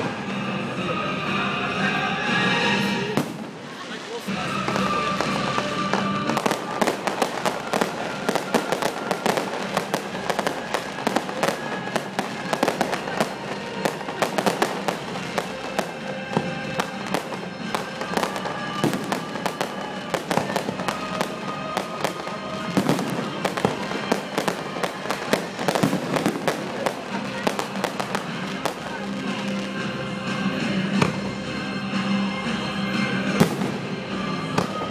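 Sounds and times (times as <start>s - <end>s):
music playing: 0.0s - 34.9s
fireworks bangs and crackles: 3.0s - 34.9s.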